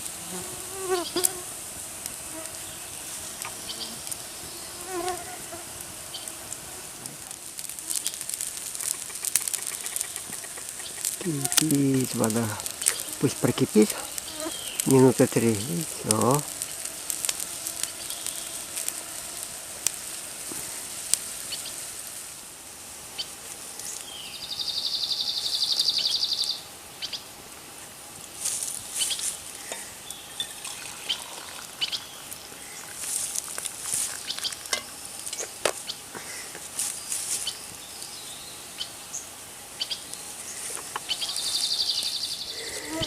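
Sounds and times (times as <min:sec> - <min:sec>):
campfire crackling and popping: 0:00.0 - 0:43.0
water boiling with sizzling hiss: 0:00.0 - 0:43.0.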